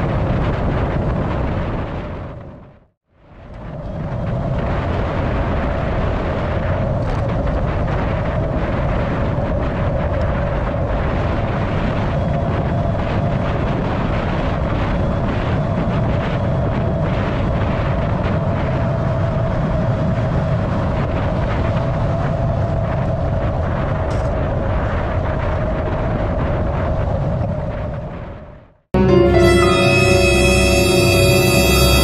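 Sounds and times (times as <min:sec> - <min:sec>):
wind buffeting microphone: 0:00.0 - 0:28.8.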